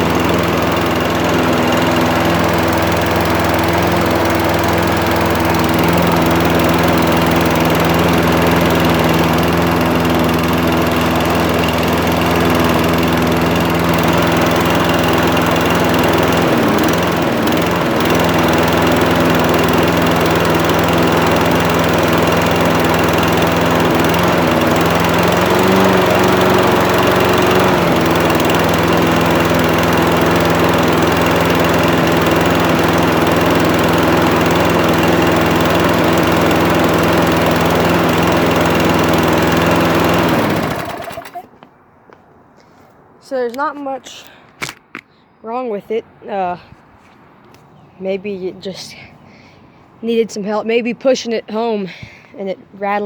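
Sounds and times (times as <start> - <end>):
lawn mower engine running: 0.0 - 43.7, 46.3 - 51.7.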